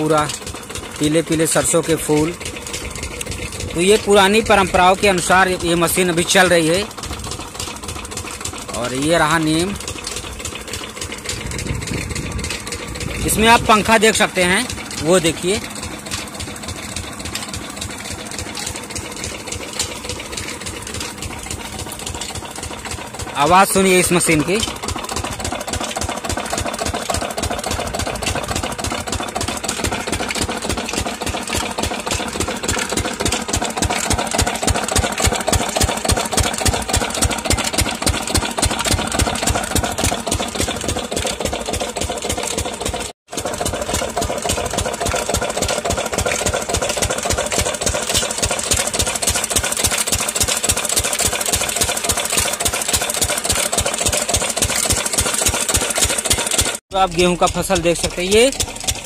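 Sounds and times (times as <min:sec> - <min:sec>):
single-cylinder diesel engine running: 0:00.0 - 0:59.0.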